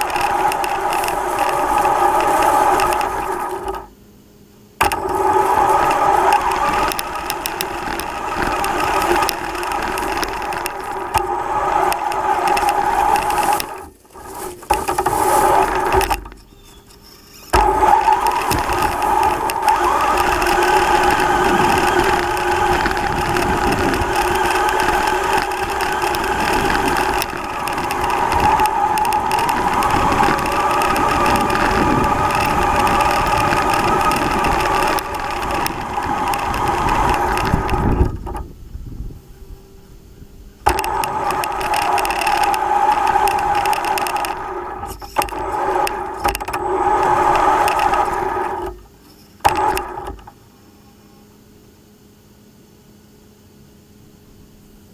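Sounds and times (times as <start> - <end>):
tyre noise: 0.0 - 3.9, 4.8 - 38.6, 40.6 - 50.4
chassis rattle: 0.0 - 4.0, 4.7 - 50.4
electric motor whining: 0.0 - 4.0, 4.8 - 50.4.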